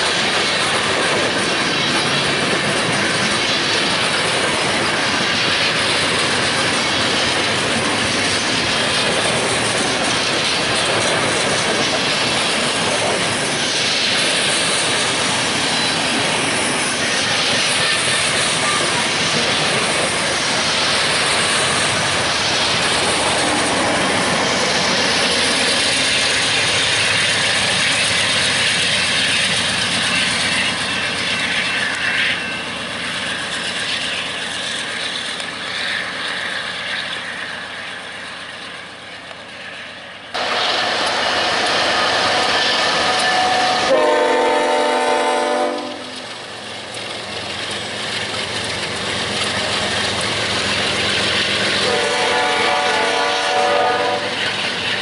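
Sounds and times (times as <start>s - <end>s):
freight cars clattering on rails: 0.0s - 39.5s, 45.7s - 53.6s
diesel locomotive passing: 0.0s - 55.0s
high squealing wheels: 0.0s - 55.0s.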